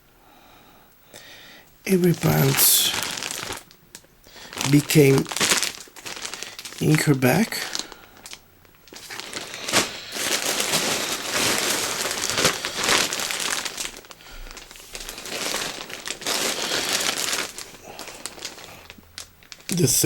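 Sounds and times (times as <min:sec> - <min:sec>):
packaging bag crinkling: 0:01.9 - 0:20.0.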